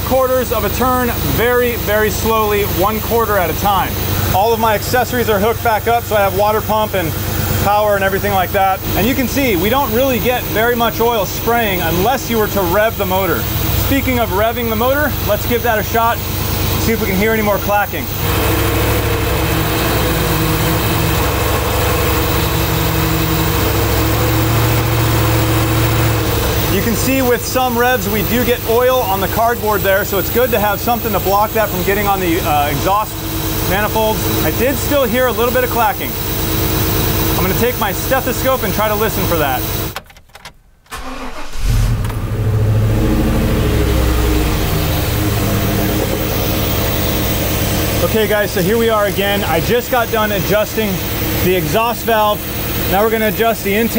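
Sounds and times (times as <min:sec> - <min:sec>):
engine running steadily: 0:00.0 - 0:40.0, 0:41.0 - 0:53.9.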